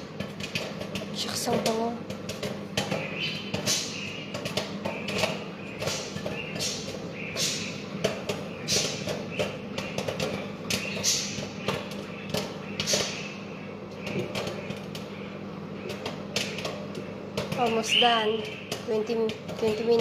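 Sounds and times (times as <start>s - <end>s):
microwave oven hum: 0.0s - 20.0s
popcorn popping: 0.0s - 20.0s.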